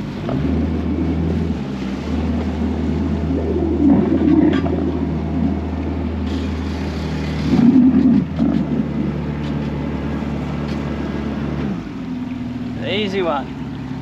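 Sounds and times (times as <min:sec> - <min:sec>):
outboard motor running: 0:00.0 - 0:14.0
water noise: 0:00.0 - 0:14.0
wind: 0:00.0 - 0:14.0.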